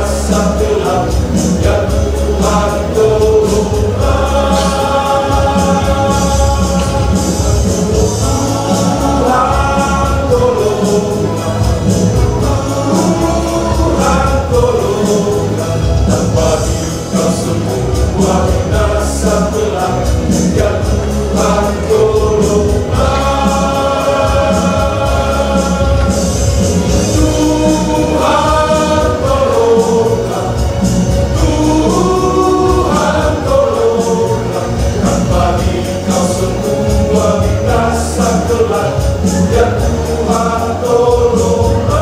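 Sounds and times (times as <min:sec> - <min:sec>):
church choir singing: 0:00.0 - 0:42.0.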